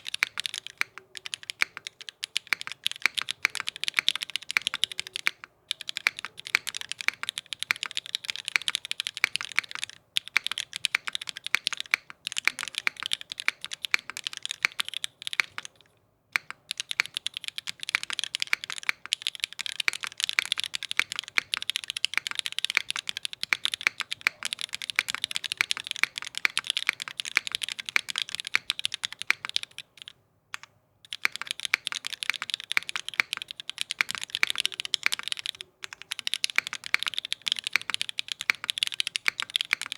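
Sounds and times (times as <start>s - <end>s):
fast typing on mechanical keyboard: 0.0s - 15.8s, 16.4s - 39.9s.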